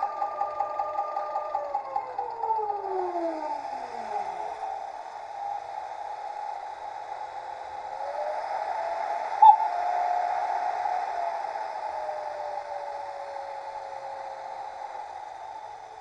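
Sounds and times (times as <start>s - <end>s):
electric locomotive motor whine: 0.0s - 16.0s
steady running hiss: 2.9s - 16.0s.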